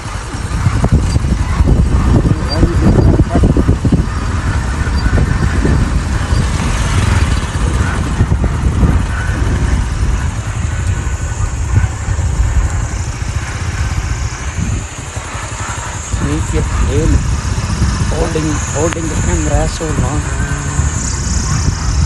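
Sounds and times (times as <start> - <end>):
motorcycle engine: 0.0 - 22.0
wind rumble on microphone: 0.0 - 22.0.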